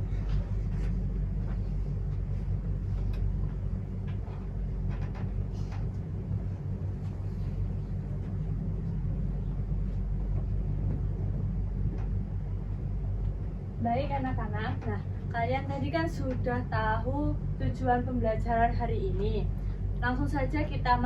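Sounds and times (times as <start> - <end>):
droning hum: 0.0 - 21.0
low rumble: 0.0 - 21.0.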